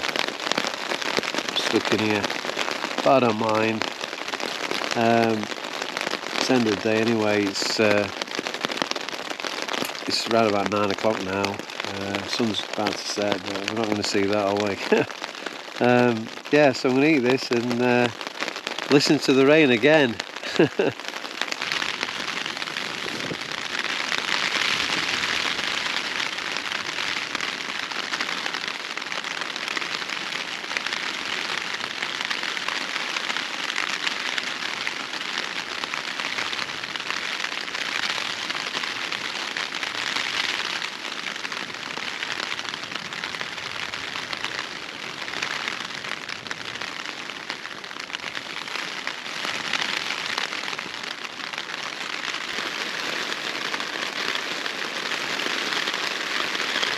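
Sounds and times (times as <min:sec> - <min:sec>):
heavy rain drumming on tent: 0:00.0 - 0:56.9.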